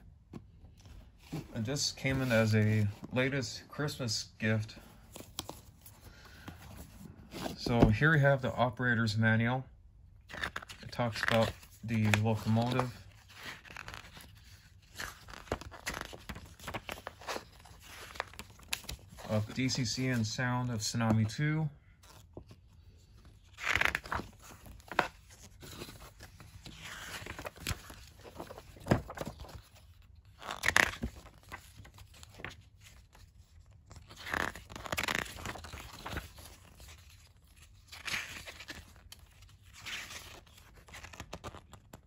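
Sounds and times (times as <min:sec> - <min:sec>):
booklet pages flipping: 0:00.3 - 0:03.2, 0:05.0 - 0:08.1, 0:10.2 - 0:21.3, 0:22.0 - 0:42.0.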